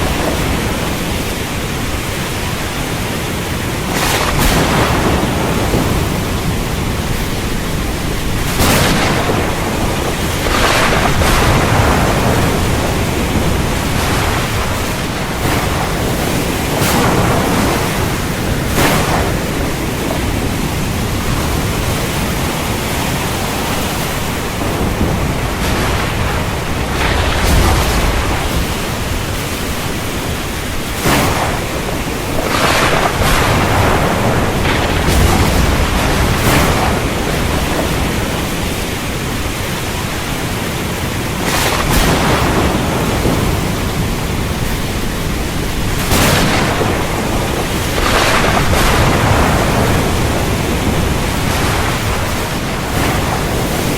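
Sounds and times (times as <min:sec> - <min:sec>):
heavy rain falling: 0:00.0 - 0:53.9
low rumble of thunder: 0:00.0 - 0:53.9.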